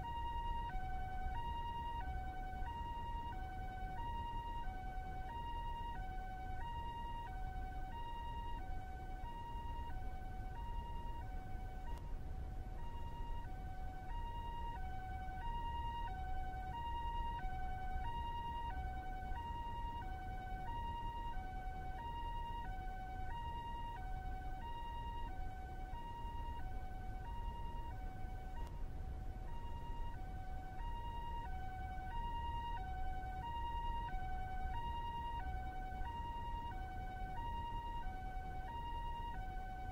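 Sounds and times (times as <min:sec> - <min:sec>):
low steady rumble: 0:00.0 - 0:39.9
two-tone hi-lo siren: 0:00.0 - 0:39.9.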